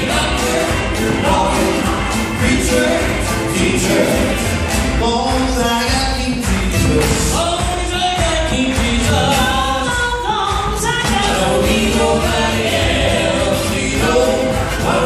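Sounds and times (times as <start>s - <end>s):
instrumental accompaniment: 0.0s - 15.0s
men singing gospel: 0.0s - 15.0s.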